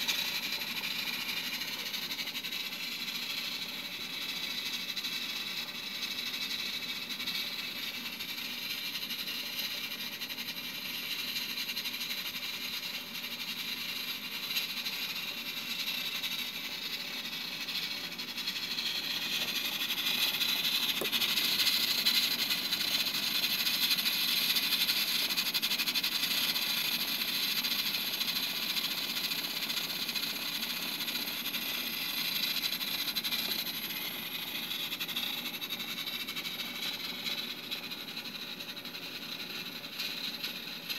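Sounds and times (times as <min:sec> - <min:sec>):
steam hissing from valve: 0:00.0 - 0:40.9.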